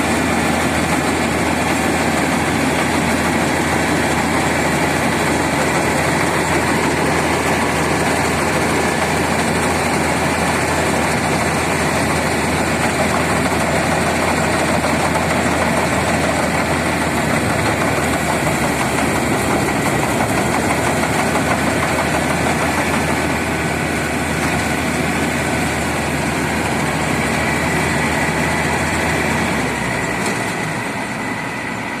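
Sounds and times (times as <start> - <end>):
combine harvester engine running: 0.0 - 32.0.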